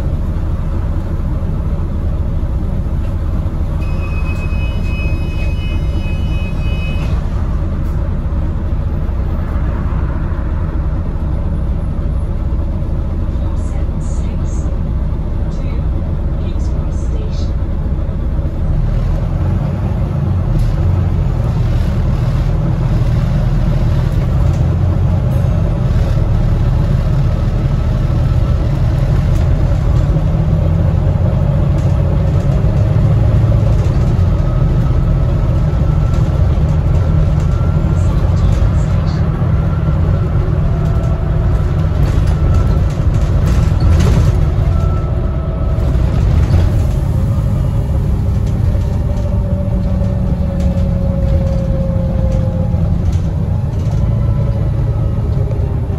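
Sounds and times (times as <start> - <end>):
bus engine rumble: 0.0 - 55.9.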